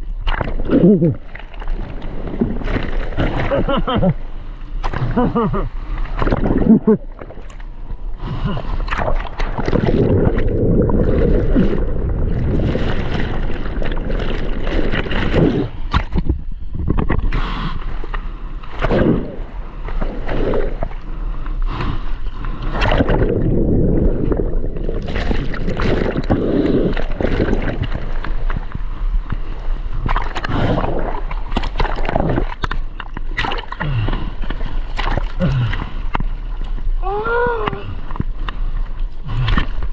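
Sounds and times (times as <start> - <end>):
low rumble: 0.0 - 33.1
surf water churning and splashing: 0.0 - 39.9.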